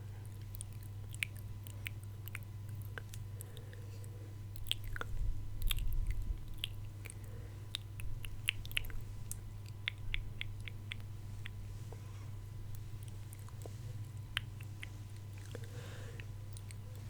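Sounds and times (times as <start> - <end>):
lip and tongue clicks: 0.3 - 3.8, 4.5 - 11.7, 12.7 - 17.0.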